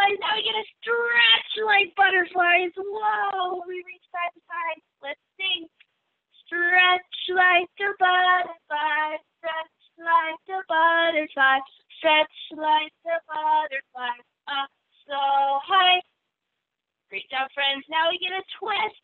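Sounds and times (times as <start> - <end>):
woman singing: 0.0 - 5.8, 6.5 - 16.1, 17.2 - 19.0.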